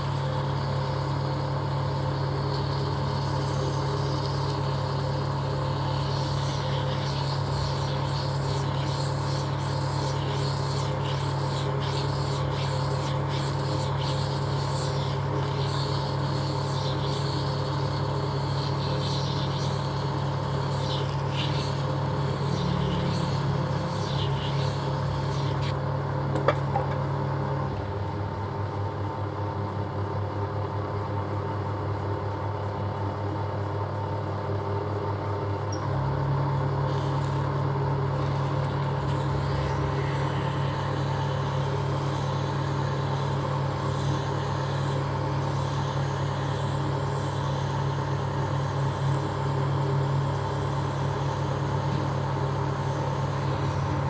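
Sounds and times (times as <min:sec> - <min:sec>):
metal lathe humming: 0:00.0 - 0:27.8, 0:36.2 - 0:54.0.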